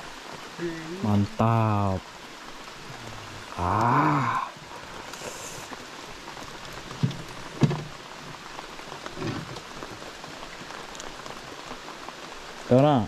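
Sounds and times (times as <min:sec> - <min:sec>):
rain hissing on water: 0:00.0 - 0:13.0.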